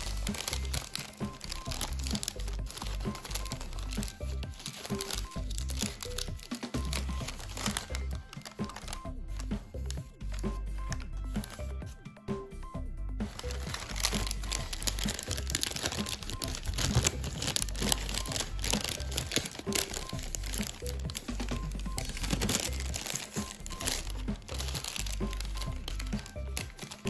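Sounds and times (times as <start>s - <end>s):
paper crinkling: 0.0s - 12.0s, 13.2s - 27.0s
background music: 0.0s - 27.0s.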